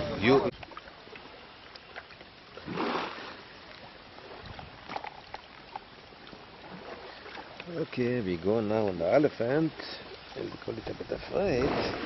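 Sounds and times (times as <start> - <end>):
river water sloshing and splashing: 0.0 - 12.0.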